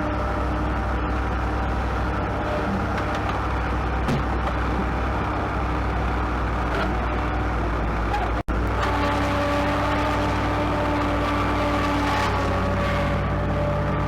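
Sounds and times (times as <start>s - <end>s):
heavy equipment engine droning: 0.0s - 14.0s.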